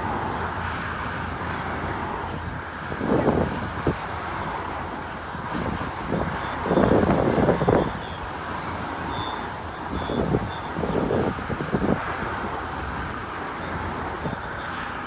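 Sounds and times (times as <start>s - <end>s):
cars driving past: 0.0s - 15.0s
wind noise on microphone: 1.1s - 14.7s.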